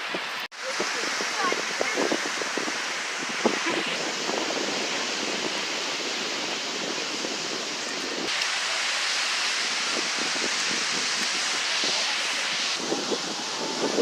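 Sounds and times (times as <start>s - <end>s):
ocean surf: 0.0s - 14.0s
wind on the beach: 0.0s - 14.0s.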